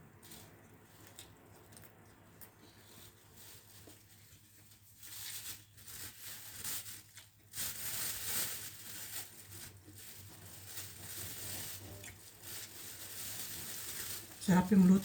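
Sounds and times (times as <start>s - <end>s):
close eating noises: 0.0s - 7.7s, 9.1s - 15.0s.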